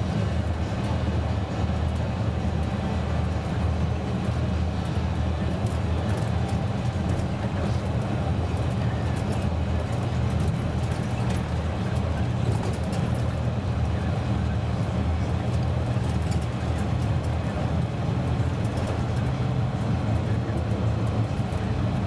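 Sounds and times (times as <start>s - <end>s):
bus diesel engine droning: 0.0s - 22.0s
road and tyre noise: 0.0s - 22.0s.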